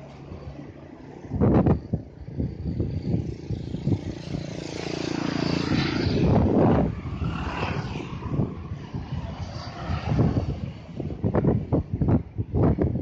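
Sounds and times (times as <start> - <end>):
engines rumbling: 0.0 - 13.0.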